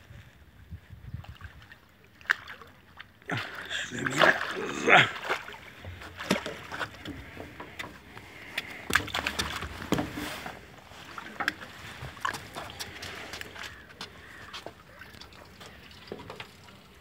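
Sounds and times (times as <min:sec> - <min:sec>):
water splashing and sloshing: 0:00.1 - 0:17.0.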